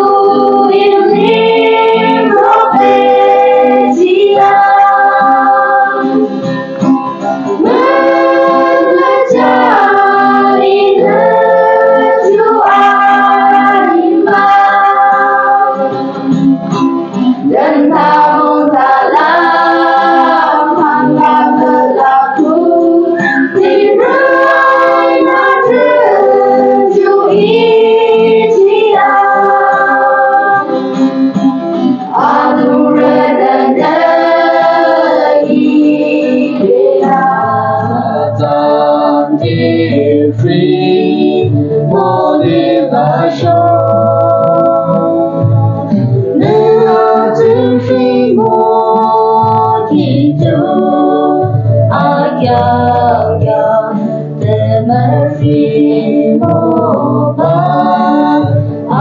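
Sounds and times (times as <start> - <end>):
choir singing a hymn: 0.0 - 6.5, 7.4 - 16.5, 17.4 - 59.0
guitar accompaniment: 0.0 - 59.0.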